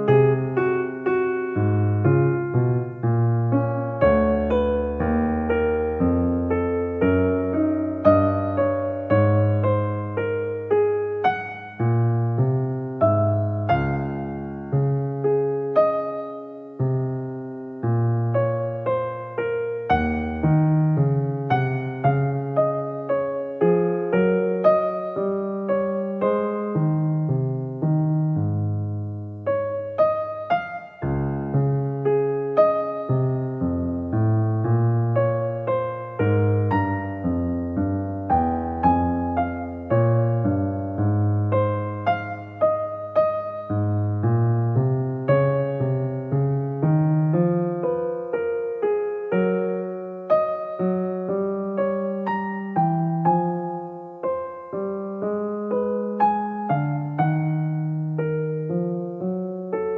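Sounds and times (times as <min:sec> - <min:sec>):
slow gentle piano melody: 0:00.0 - 0:59.9.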